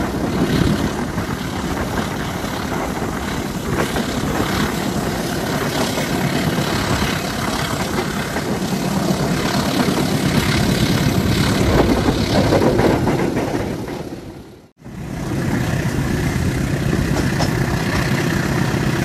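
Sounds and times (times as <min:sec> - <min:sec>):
diesel locomotive engine running: 0:00.0 - 0:19.0
train rumbling in motion: 0:00.0 - 0:19.0.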